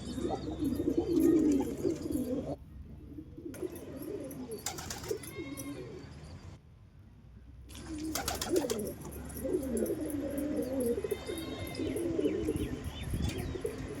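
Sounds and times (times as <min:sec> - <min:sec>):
pigeons cooing: 0:00.0 - 0:06.0, 0:07.8 - 0:14.0.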